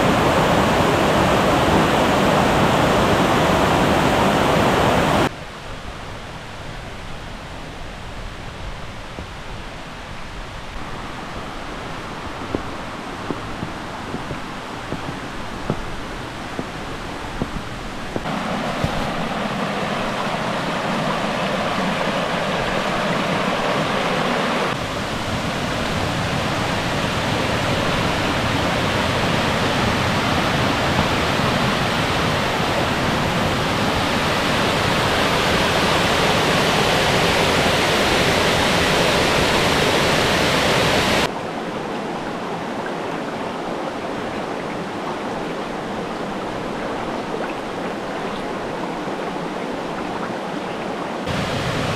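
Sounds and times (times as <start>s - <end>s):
waterfall rushing: 0.0s - 5.4s, 10.3s - 51.9s.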